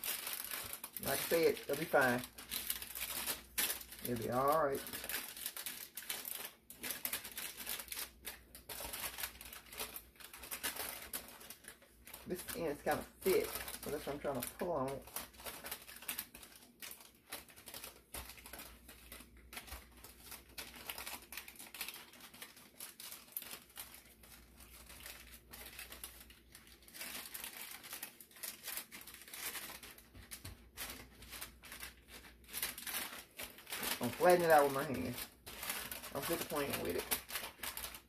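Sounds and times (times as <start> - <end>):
parchment paper crinkling: 0.0 - 38.0.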